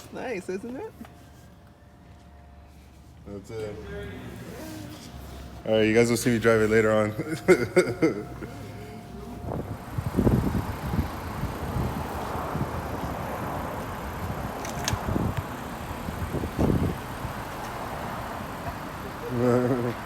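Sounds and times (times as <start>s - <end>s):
low rumble of vehicle noise: 0.0s - 20.0s.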